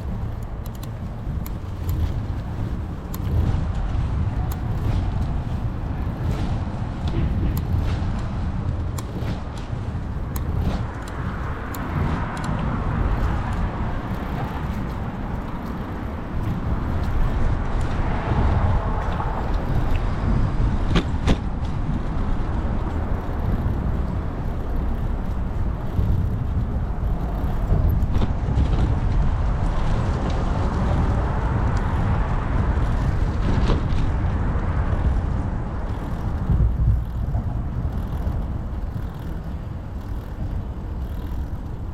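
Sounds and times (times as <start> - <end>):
road traffic passing: 0.0 - 41.9
wind rumbling on microphone: 0.0 - 41.9.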